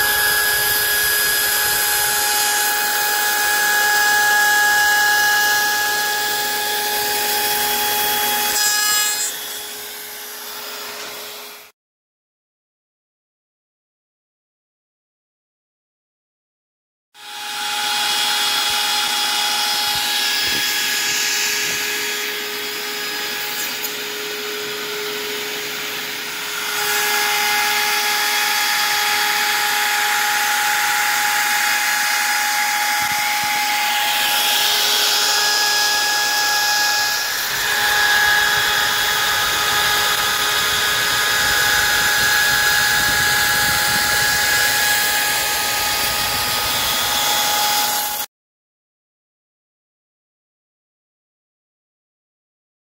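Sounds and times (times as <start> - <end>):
bit cutting wood: 0.0 - 11.6, 17.2 - 48.3
router whining: 0.0 - 11.7, 17.2 - 48.3.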